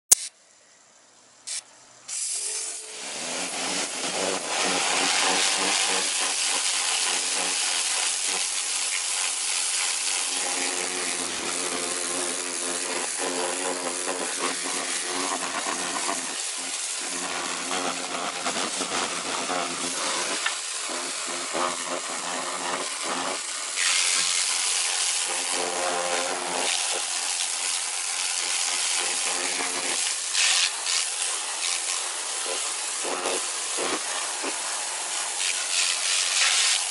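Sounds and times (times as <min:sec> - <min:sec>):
water jet spraying into sink: 0:01.5 - 0:36.9
electric pump motor hum: 0:02.3 - 0:36.9.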